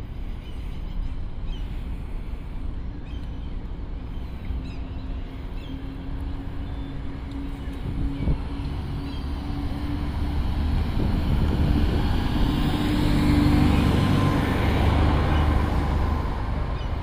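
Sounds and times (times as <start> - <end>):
low traffic rumble: 0.0 - 17.0
vehicle engine hum: 0.0 - 17.0.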